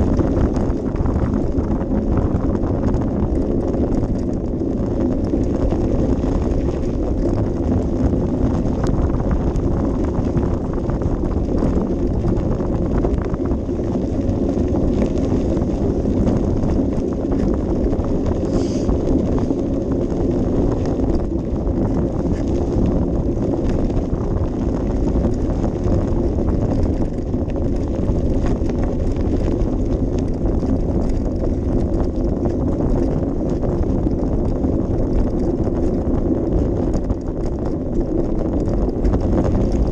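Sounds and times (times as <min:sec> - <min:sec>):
bicycle rumbling on rough path: 0:00.0 - 0:39.9
wind on microphone: 0:00.0 - 0:39.9.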